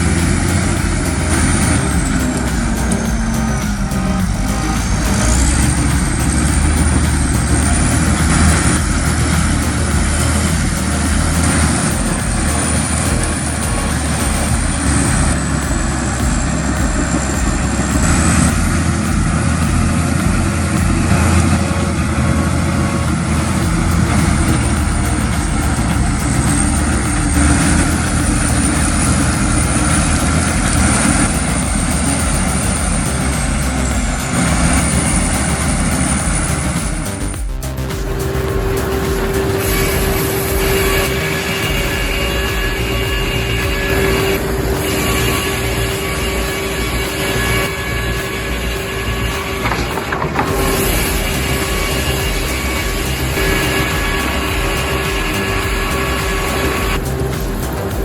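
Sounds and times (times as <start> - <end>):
bulldozer diesel engine rumbling: 0.0 - 58.0
high wavering whine: 0.0 - 58.0.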